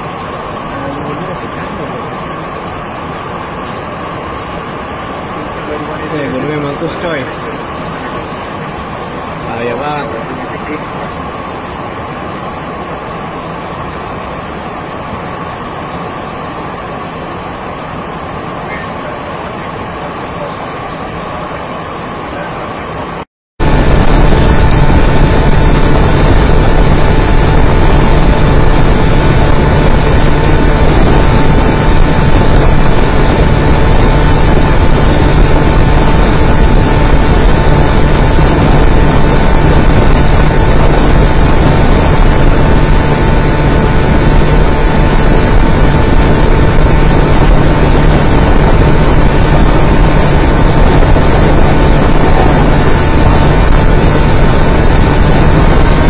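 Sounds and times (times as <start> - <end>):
aircraft engines droning: 0.0 - 56.0
steady low hum: 0.0 - 56.0
thin steady whine: 0.0 - 56.0.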